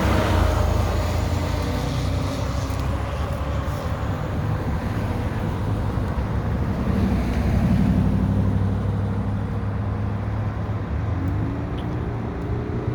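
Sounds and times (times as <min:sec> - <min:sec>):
fire engine diesel engine drone: 0:00.0 - 0:12.9.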